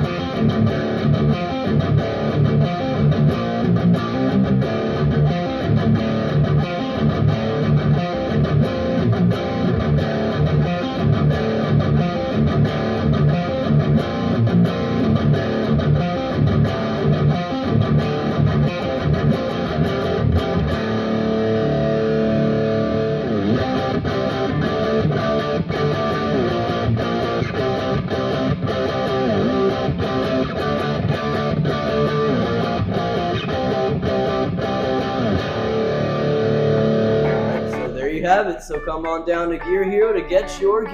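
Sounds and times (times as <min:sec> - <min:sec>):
electric guitar playing: 0:00.0 - 0:40.9.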